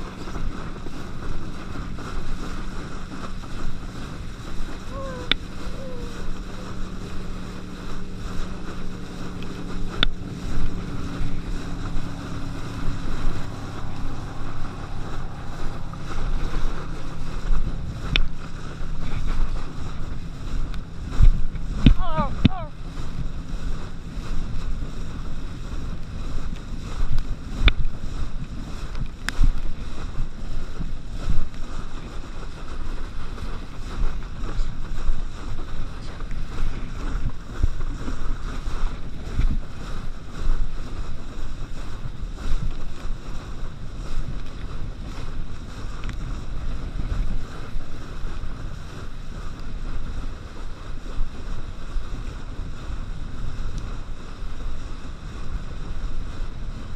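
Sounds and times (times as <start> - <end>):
rush of water spray: 0.0 - 56.9
wind buffeting microphone: 0.0 - 56.9.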